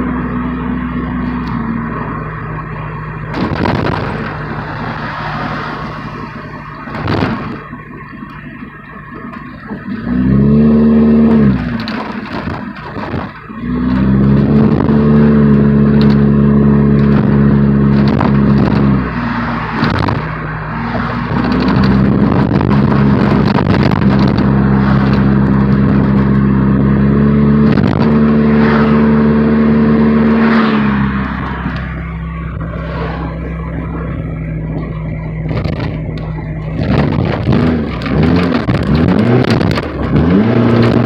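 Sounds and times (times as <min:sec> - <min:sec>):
car engine revving: 0:00.0 - 0:41.0
exhaust crackles: 0:00.0 - 0:41.0.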